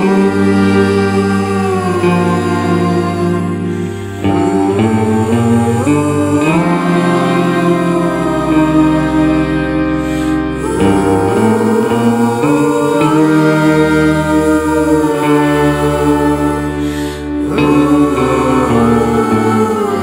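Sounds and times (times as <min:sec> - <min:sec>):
gliding melodic line: 0:00.0 - 0:20.0
slow sustained chords: 0:00.0 - 0:20.0.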